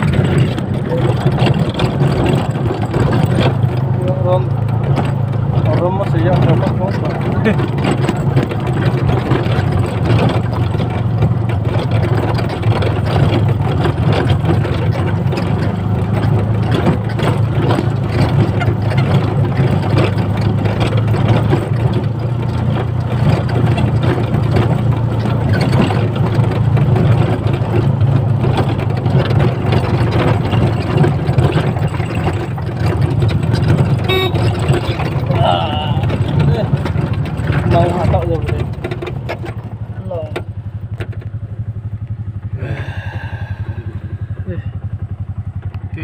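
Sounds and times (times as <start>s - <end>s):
vehicle engine humming: 0.0s - 46.0s.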